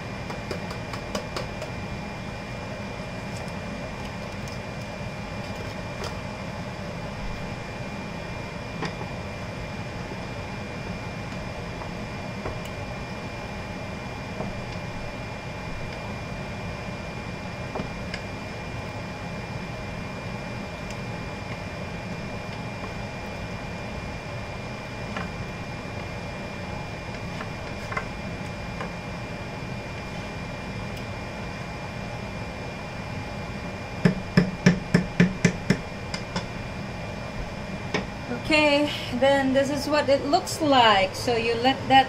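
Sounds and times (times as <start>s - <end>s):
steady hum with high whine: 0.0s - 42.0s.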